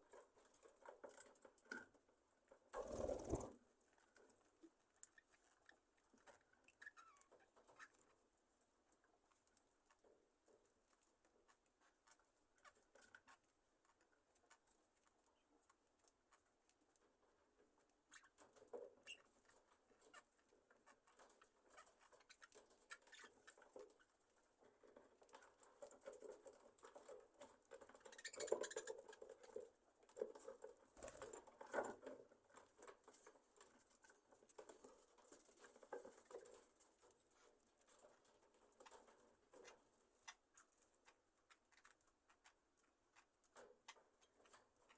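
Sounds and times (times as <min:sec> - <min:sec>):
budgerigars rustling on perches: 0:00.0 - 0:44.9.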